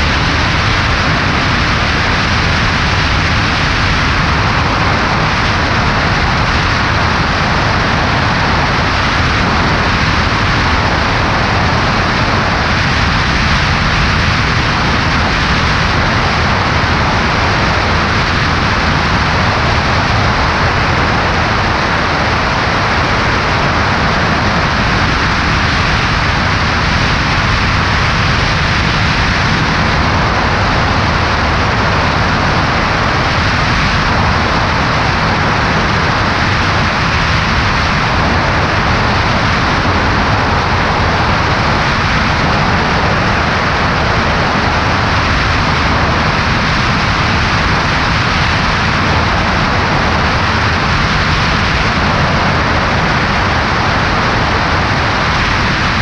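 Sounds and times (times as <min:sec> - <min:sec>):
aircraft engine drone: 0:00.0 - 0:56.0
wind rushing over microphone: 0:00.0 - 0:56.0.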